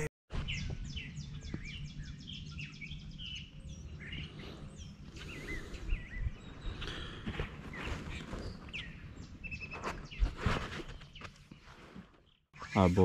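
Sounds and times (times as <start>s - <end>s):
birds calling and singing: 0.4s - 13.0s.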